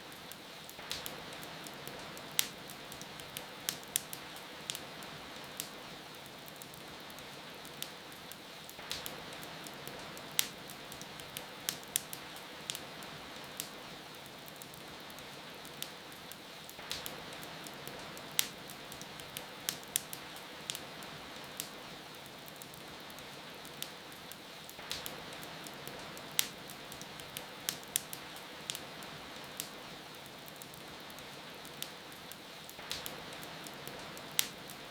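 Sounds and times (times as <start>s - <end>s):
rain falling: 0.0s - 34.9s
wood fire crackling and popping: 0.0s - 34.9s.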